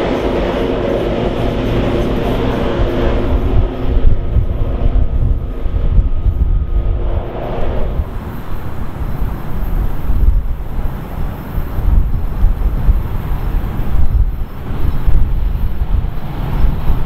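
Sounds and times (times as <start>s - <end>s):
distant diesel train rumble: 0.0s - 17.0s
faint steady engine tone: 0.0s - 17.0s
wind buffeting microphone: 0.0s - 17.0s.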